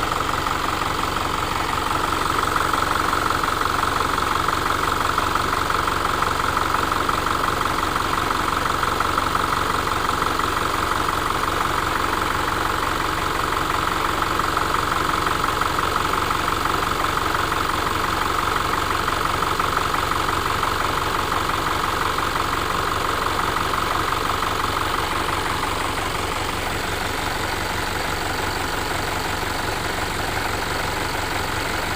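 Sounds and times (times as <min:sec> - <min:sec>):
engine idling: 0:00.0 - 0:31.9.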